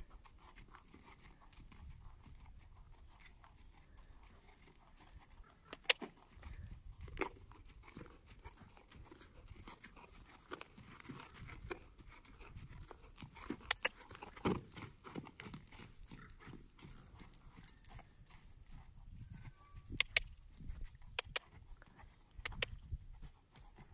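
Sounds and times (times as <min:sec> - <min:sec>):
horse hooves walking on sand: 0:00.0 - 0:23.9.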